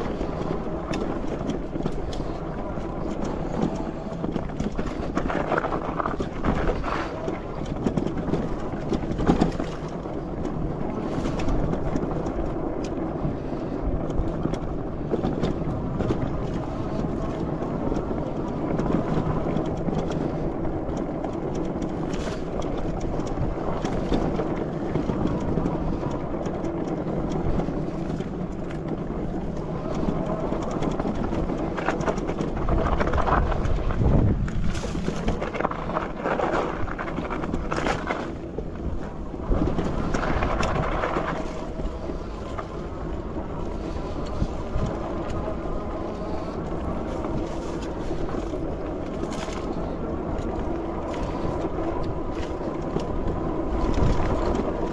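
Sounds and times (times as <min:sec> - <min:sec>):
tyres rumbling over rough trail: 0:00.0 - 0:54.9
wind rushing over microphone: 0:00.0 - 0:54.9.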